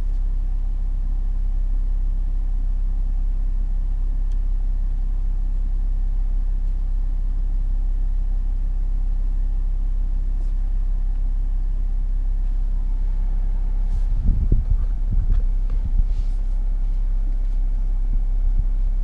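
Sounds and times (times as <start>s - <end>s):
diesel engine low rumble: 0.0s - 19.0s.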